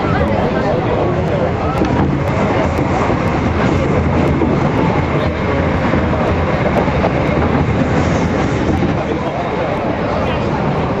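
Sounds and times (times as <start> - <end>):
train passing close alongside: 0.0 - 11.0
train wheels rumbling on rails: 0.0 - 11.0
faint clickety-clack: 1.2 - 11.0.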